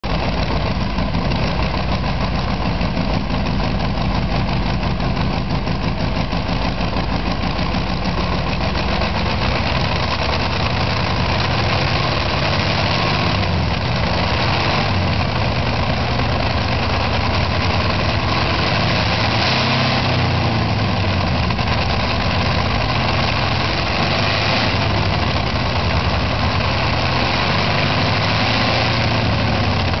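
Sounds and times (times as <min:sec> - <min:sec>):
radial aircraft engine running: 0:00.0 - 0:30.0.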